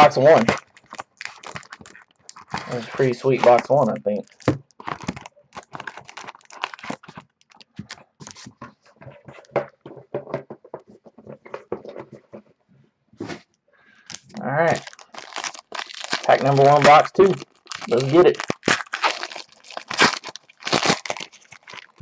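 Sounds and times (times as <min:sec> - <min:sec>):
cardboard and plastic wrap rustling: 0:00.0 - 0:12.6, 0:14.2 - 0:22.0.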